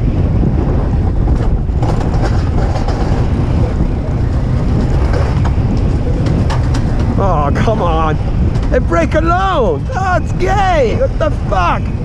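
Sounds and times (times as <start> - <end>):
coaster sled wheels rumbling: 0.0 - 12.0.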